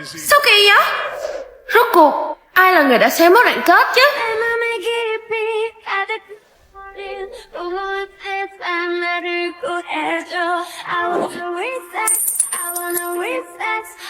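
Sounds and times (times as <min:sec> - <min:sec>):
woman singing: 0:01.7 - 0:14.0.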